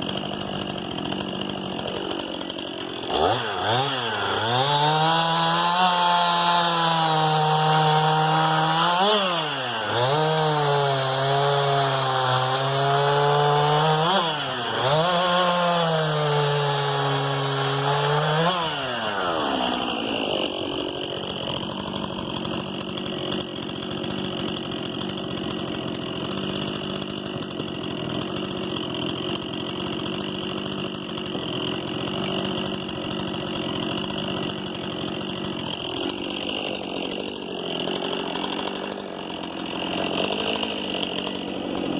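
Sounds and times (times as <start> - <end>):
chainsaw cutting at high revs: 0.0 - 41.9.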